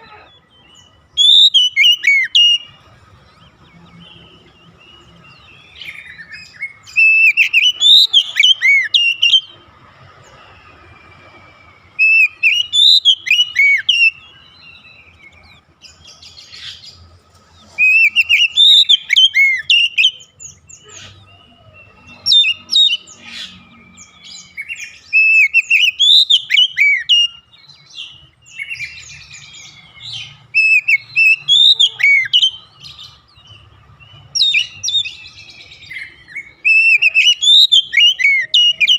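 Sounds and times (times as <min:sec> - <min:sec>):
magpie-robin singing whistled notes: 0:00.1 - 0:09.6, 0:10.2 - 0:17.0, 0:17.6 - 0:38.9.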